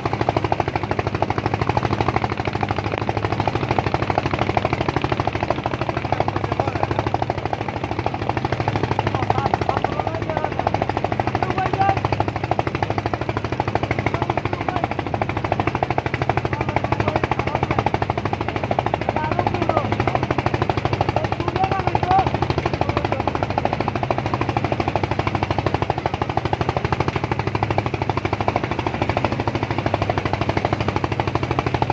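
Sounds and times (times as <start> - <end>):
engine chugging: 0.0 - 31.9.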